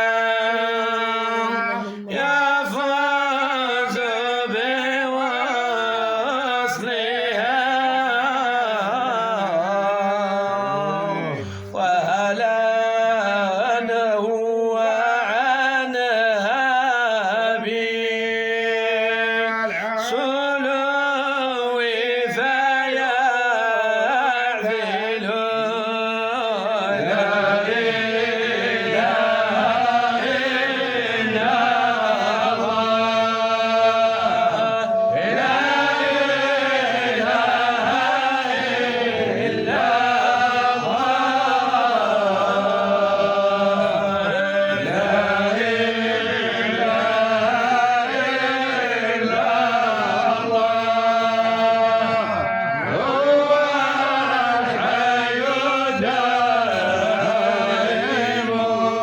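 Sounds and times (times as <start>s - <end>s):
man chanting devotional song: 0.0s - 59.0s.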